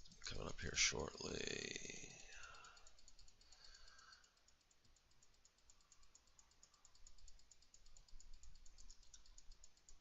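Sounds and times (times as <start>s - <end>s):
rapid high-pitched ticking: 0.0s - 10.0s.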